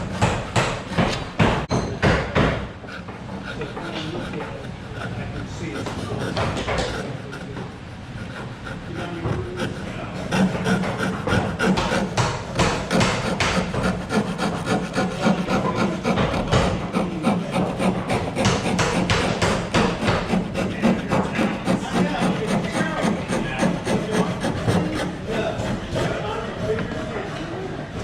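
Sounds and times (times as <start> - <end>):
turning tool scraping wood: 0.0 - 28.0.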